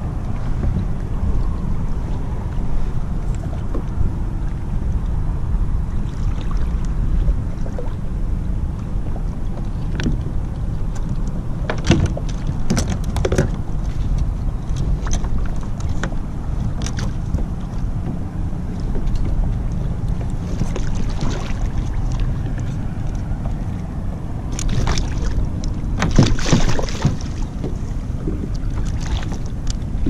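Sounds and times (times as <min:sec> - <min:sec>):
water lapping against kayak: 0:00.0 - 0:30.0
wind rumbling on microphone: 0:00.0 - 0:30.0.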